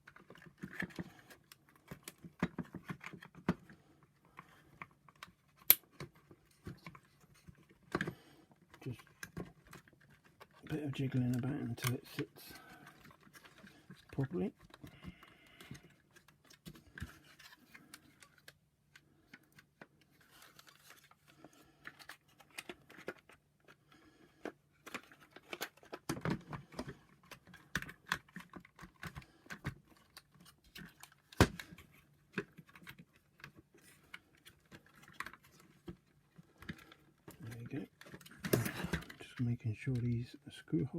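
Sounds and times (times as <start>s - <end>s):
plastic clicks and scrapes: 0.0s - 40.2s.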